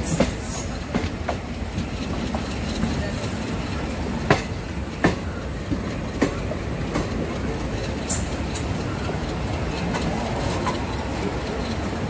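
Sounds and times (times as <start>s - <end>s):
train wheels rumbling: 0.0s - 12.0s
wheels clicking over rail joints: 0.0s - 12.0s.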